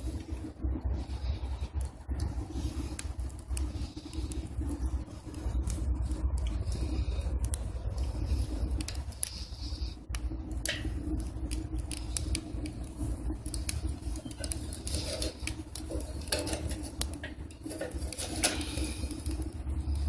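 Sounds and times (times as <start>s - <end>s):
firewood crackling and popping: 0.0s - 20.0s
stove low rumble: 0.0s - 20.0s.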